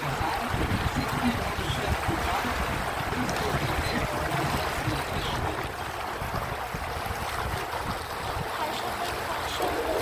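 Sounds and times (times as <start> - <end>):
boat motor rumbling: 0.0 - 10.0
water washing along hull: 0.0 - 10.0.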